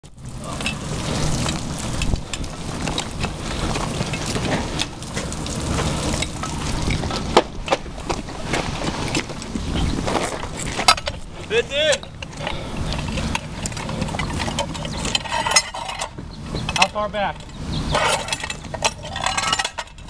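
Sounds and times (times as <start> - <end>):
fire hose water spraying: 0.0 - 20.0.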